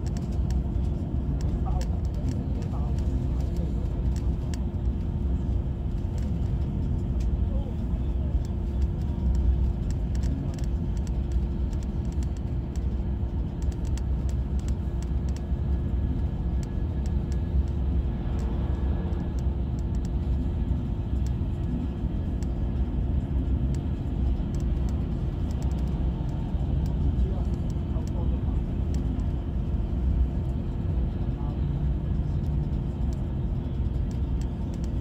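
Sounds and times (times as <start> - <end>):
constant hum: 0.0 - 35.0
moving vehicle rumble: 0.0 - 35.0.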